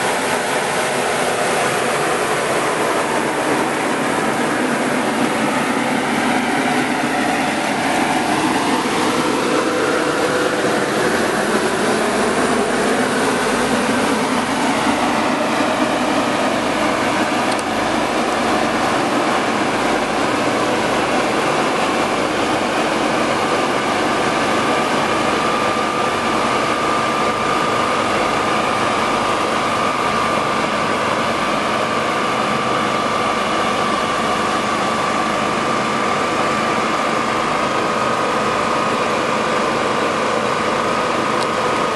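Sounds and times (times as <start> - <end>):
grain cleaner running: 0.0 - 41.9
steady high whine: 0.0 - 41.9.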